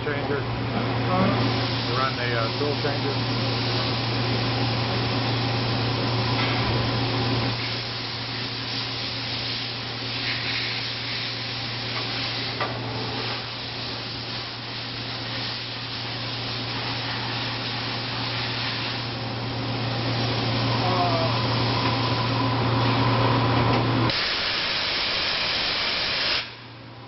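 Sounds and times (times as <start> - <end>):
machining center humming: 0.0 - 10.2, 11.0 - 27.0.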